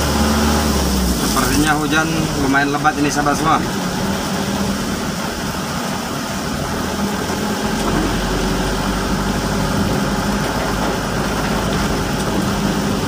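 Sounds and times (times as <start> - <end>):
deep low rumble: 0.0 - 13.0
heavy rain hissing: 0.0 - 13.0
vehicle engine running: 0.0 - 13.0.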